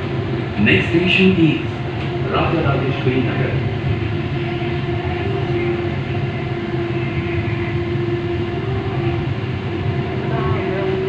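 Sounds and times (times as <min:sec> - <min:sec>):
metro train rumbling: 0:00.0 - 0:11.0.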